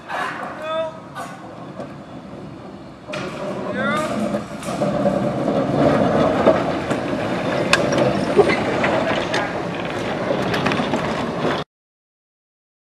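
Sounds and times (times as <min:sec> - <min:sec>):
tram rumbling: 0:00.0 - 0:11.6
tram clicks and knocks: 0:00.4 - 0:11.6.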